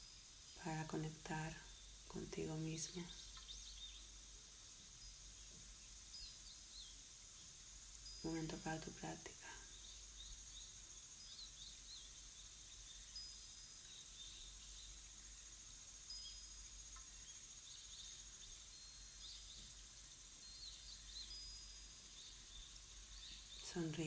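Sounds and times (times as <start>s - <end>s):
steady hiss: 0.0s - 24.0s
small high chirps: 1.6s - 24.0s.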